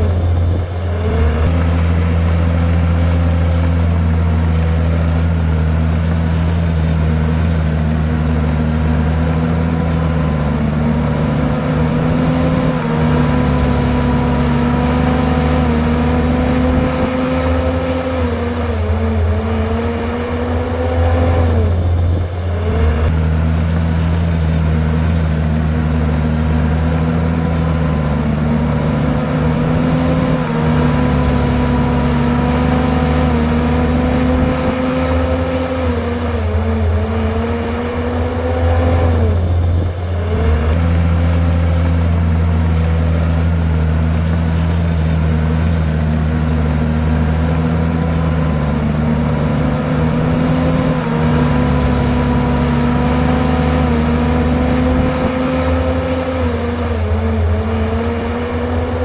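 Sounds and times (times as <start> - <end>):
bulldozer diesel engine under load: 0.0 - 59.0
bulldozer pushing rock and soil: 0.0 - 59.0.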